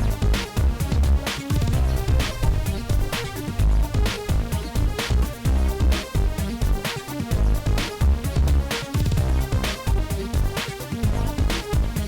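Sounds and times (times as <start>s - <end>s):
upbeat electronic pop music: 0.0s - 12.0s.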